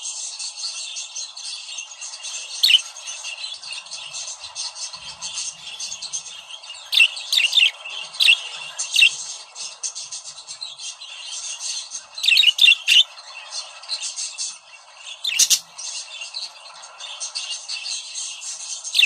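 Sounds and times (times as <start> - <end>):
budgerigars chattering: 0.0 - 19.0.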